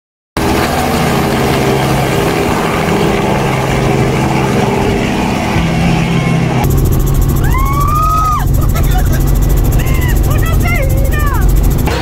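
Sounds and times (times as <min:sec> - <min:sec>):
helicopter flying past: 0:00.4 - 0:12.0.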